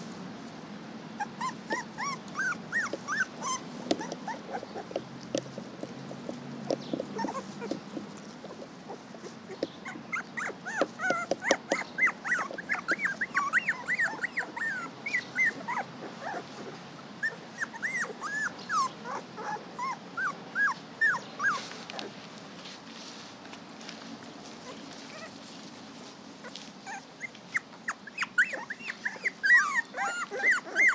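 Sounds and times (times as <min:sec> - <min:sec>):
puppies whining: 0:01.2 - 0:22.2, 0:24.6 - 0:25.4, 0:26.4 - 0:30.9.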